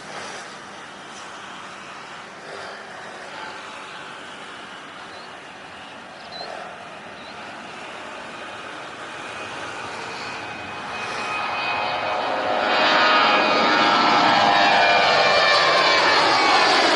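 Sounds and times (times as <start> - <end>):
jet engines at takeoff power: 0.0 - 16.9
steady high whine: 0.0 - 16.9.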